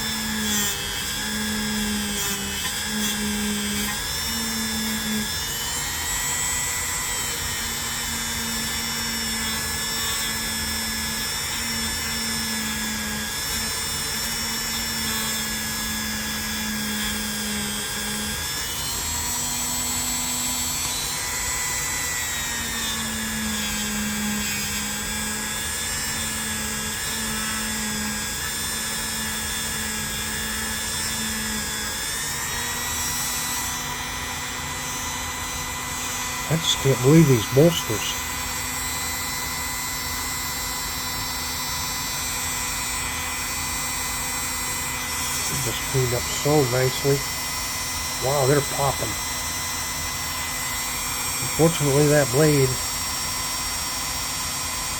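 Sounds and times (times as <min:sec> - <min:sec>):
rotary tool high whine: 0:00.0 - 0:54.9.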